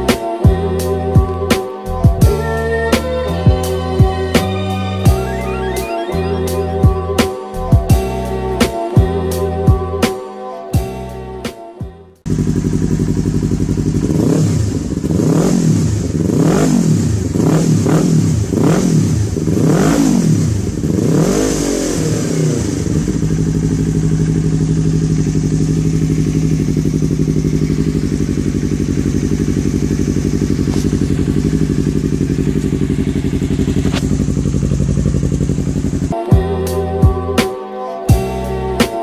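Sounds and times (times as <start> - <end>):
motorcycle engine revving and idling: 0.0 - 10.1, 10.8 - 37.5, 38.1 - 39.0.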